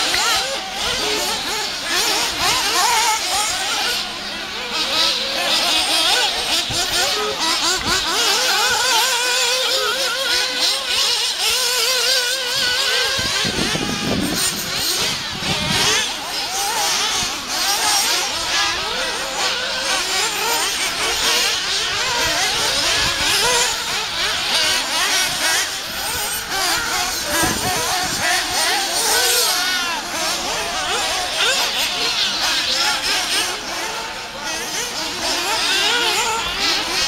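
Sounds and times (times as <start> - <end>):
rc buggy engines revving: 0.0 - 37.0.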